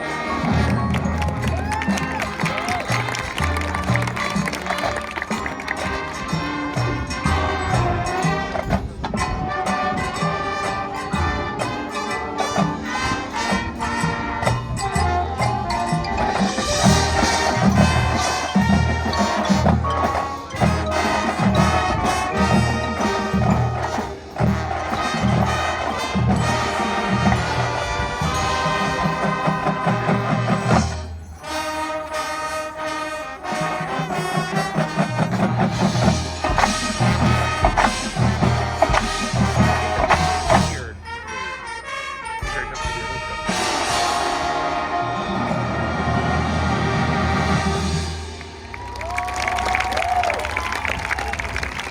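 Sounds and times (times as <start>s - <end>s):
marching band playing: 0.0s - 51.9s.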